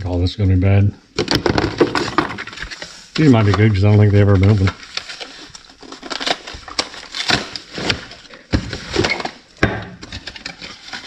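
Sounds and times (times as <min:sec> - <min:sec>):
clicks and knocks of small objects: 0:01.2 - 0:11.0
plastic packaging rustling: 0:01.2 - 0:11.0.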